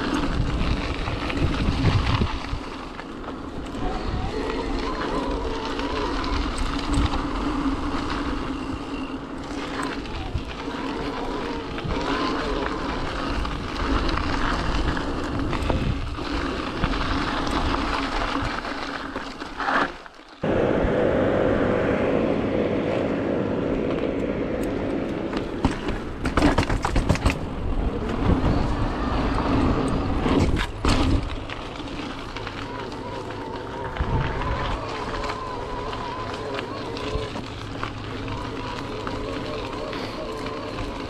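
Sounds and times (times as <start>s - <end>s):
wind on microphone: 0.0s - 18.6s, 20.4s - 41.0s
bike rattling over rough ground: 0.0s - 20.5s, 24.7s - 41.0s
tyres rumbling on trail: 0.0s - 41.0s.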